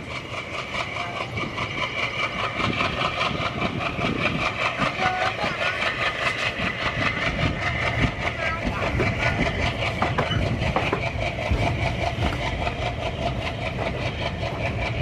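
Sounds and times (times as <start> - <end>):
locomotive engine chugging: 0.0 - 15.0
train coaches running noise: 0.0 - 15.0.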